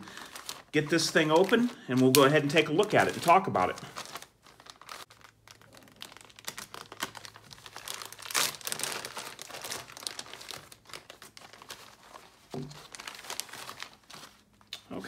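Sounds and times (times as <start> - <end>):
plastic mailer crinkling: 0.0 - 14.7
plastic tearing: 0.0 - 14.9.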